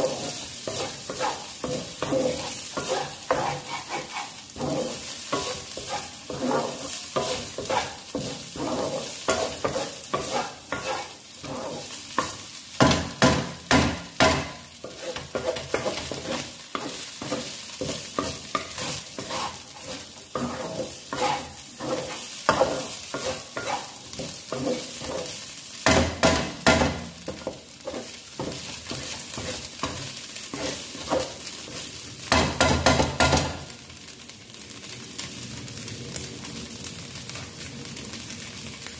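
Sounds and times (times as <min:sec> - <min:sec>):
spatula scraping frying pan: 0:00.0 - 0:33.5
food sizzling: 0:00.0 - 0:38.9.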